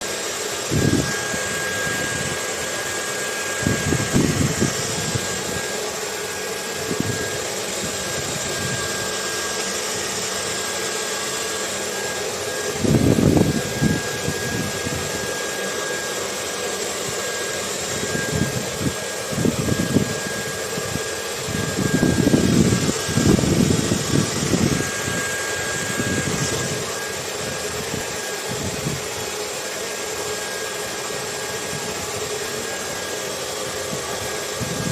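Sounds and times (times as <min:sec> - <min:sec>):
hair dryer running: 0:00.0 - 0:34.9
low wind gusts: 0:00.6 - 0:34.9.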